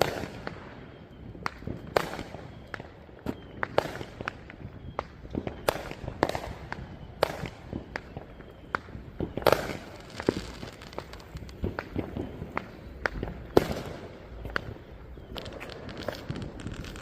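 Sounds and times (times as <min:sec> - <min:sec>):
fireworks popping and banging: 0:00.0 - 0:17.0.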